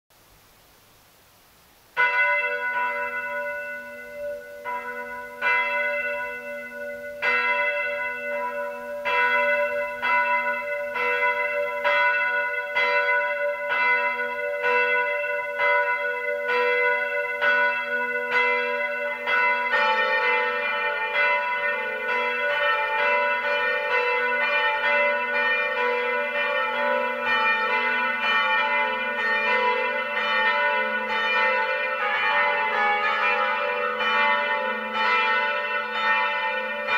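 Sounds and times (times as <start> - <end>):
church bells pealing: 2.0 - 36.9.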